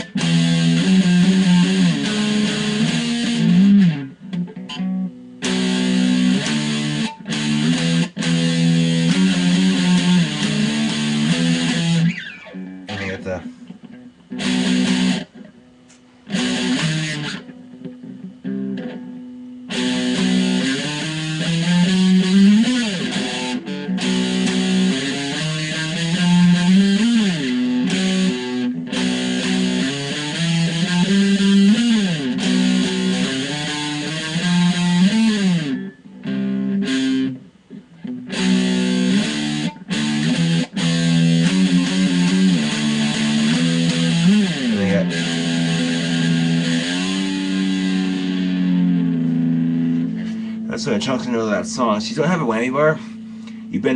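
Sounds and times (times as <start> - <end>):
distorted electric guitar riff: 0.0 - 53.9.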